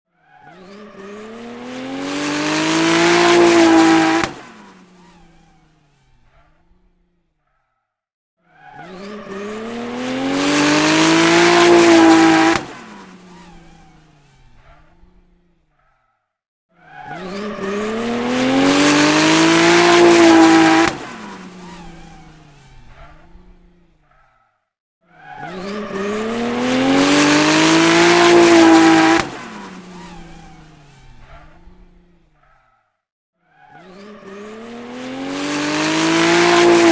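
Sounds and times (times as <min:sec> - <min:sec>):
racing car passing by: 0:00.2 - 0:07.1, 0:08.5 - 0:15.5, 0:16.8 - 0:24.0, 0:25.1 - 0:32.3, 0:33.5 - 0:36.9.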